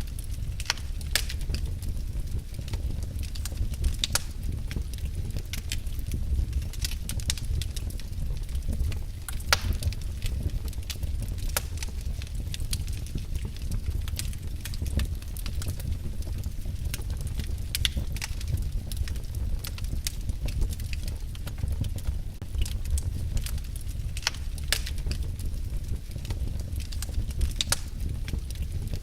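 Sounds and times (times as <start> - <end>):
fire pops: 0.0 - 29.0
wood fire crackling: 0.0 - 29.0.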